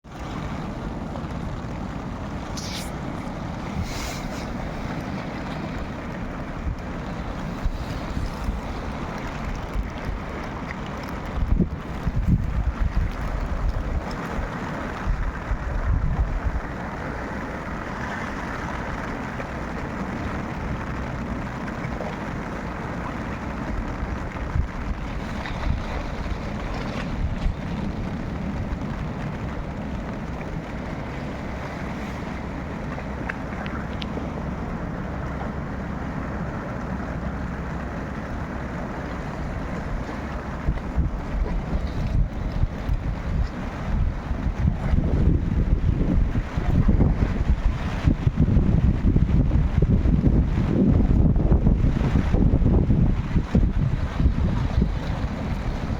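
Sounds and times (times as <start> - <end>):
steady rushing noise: 0.0 - 55.9
wind buffeting microphone: 0.0 - 55.9.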